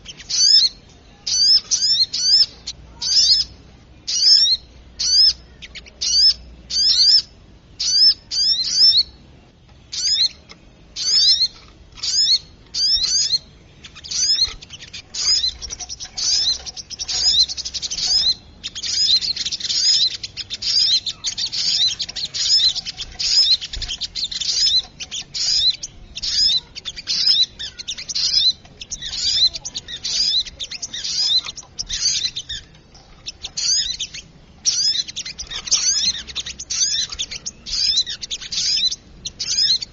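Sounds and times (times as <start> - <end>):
recorded small bird chirps: 0.0 - 39.9.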